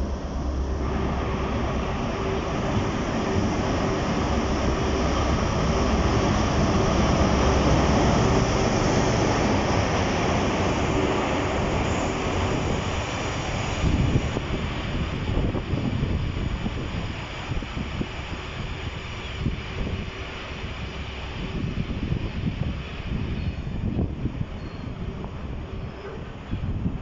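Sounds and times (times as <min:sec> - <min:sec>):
diesel train engine passing: 0:00.0 - 0:27.0.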